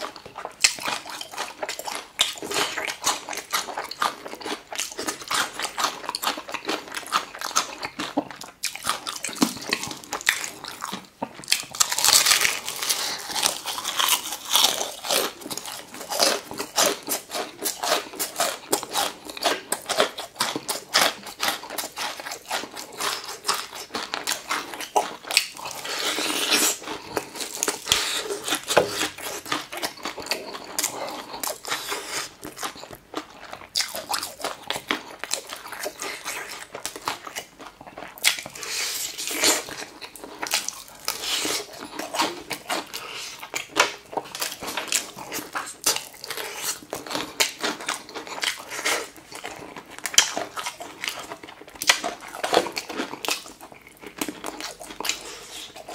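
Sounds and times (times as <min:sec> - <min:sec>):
chewing pickled radish: 0:00.0 - 0:55.9
crunching fried chicken: 0:00.0 - 0:55.9.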